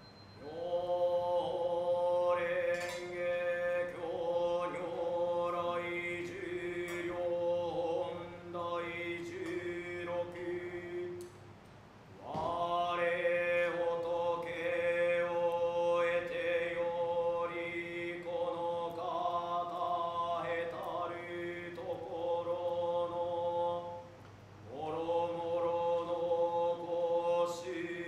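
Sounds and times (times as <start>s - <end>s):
men chanting in unison: 0.4s - 11.2s, 12.2s - 24.1s, 24.7s - 28.0s.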